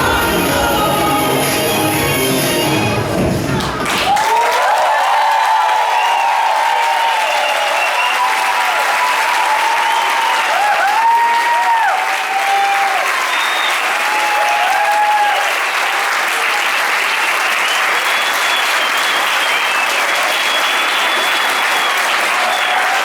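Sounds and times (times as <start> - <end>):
crowd applauding: 3.4 - 23.0
crowd cheering: 3.5 - 23.0.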